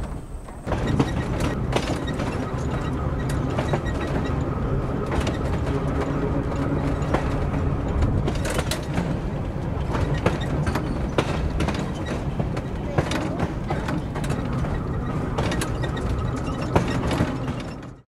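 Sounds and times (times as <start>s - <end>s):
clicks and knocks of streetcar: 0.0s - 18.0s
streetcar humming: 0.0s - 18.0s.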